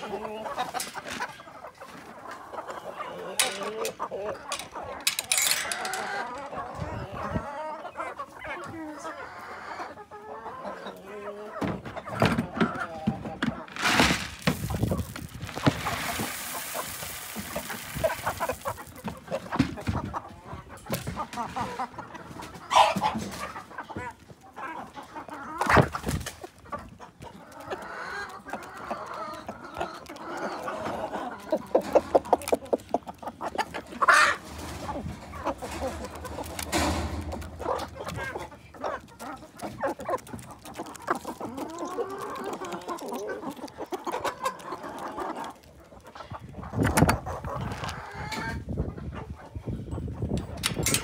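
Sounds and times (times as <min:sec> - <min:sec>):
hens clucking: 0:00.0 - 0:51.0.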